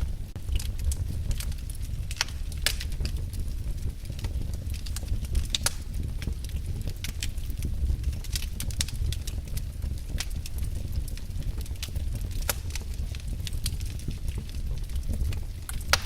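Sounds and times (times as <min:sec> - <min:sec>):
fire low rumble: 0:00.0 - 0:16.0
wood fire crackling: 0:00.0 - 0:16.0.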